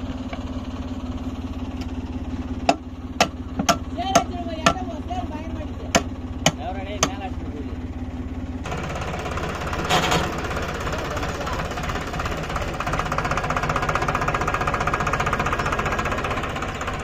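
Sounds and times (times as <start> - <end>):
tractor diesel engine knocking: 0.0 - 17.0.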